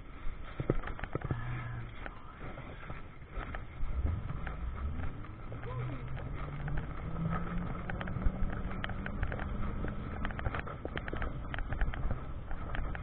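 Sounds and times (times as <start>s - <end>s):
road noise: 0.0s - 13.0s
clicks and rattles: 0.5s - 13.0s.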